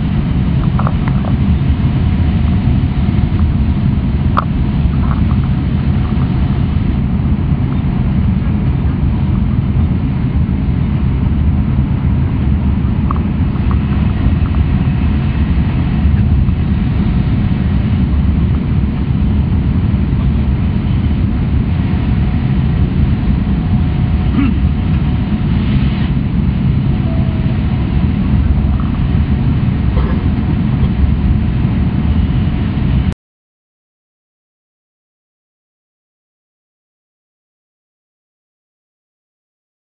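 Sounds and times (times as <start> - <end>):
train low rumble: 0.0 - 33.2.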